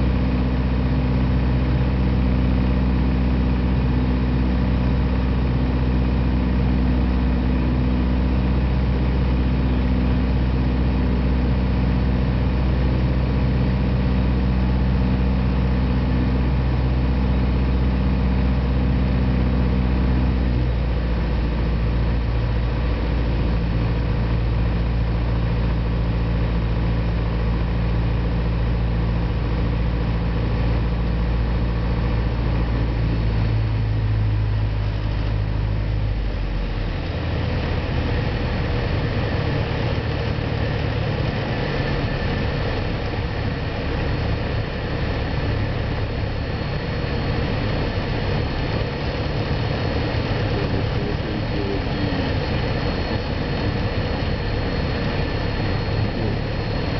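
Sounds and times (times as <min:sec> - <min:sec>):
airplane engine drone in cabin: 0:00.0 - 0:56.9.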